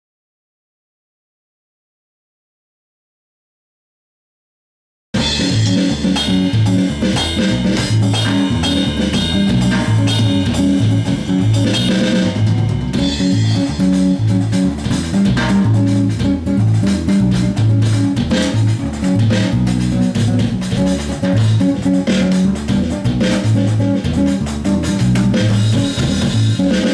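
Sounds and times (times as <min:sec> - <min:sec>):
electric bass guitar: 0:05.2 - 0:26.9
electronic drum beat: 0:05.2 - 0:26.9.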